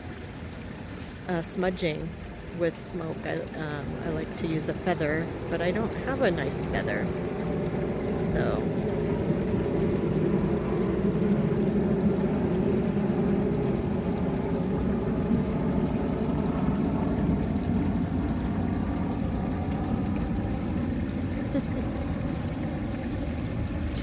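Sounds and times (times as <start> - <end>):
low motor drone: 1.0 - 24.0.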